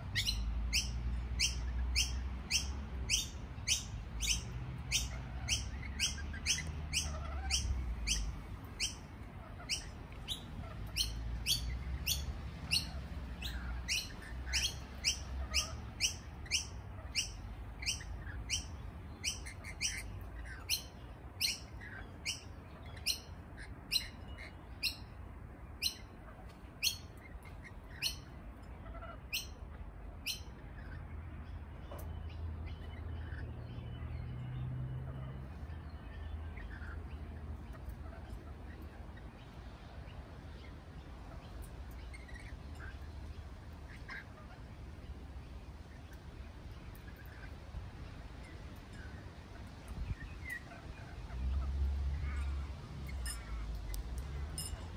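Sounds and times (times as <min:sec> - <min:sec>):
birds chirping high: 0:00.0 - 0:54.9.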